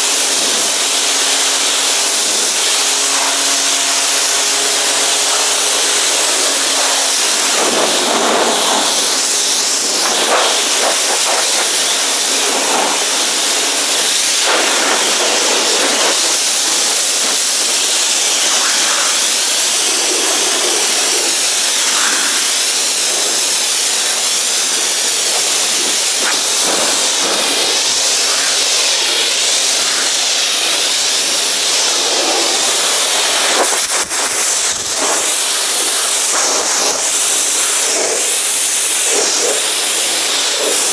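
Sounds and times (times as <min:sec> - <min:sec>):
pressure washer spray hissing: 0:00.0 - 0:40.9
washer pump humming: 0:00.0 - 0:40.9.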